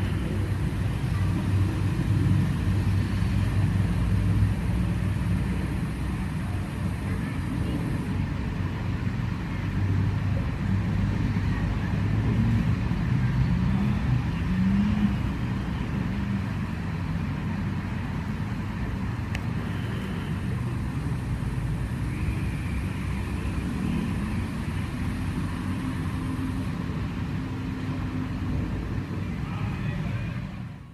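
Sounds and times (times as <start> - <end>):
passing cars rumbling: 0.0 - 30.9.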